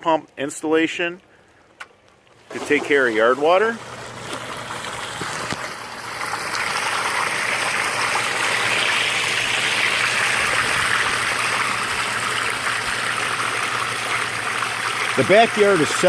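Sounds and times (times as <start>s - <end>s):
water pouring and splashing: 2.3s - 16.0s.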